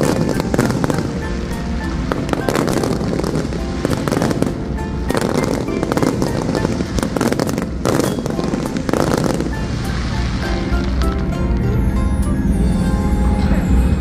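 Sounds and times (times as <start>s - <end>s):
fireworks crackling and popping: 0.0s - 11.7s
music playing: 0.0s - 14.0s.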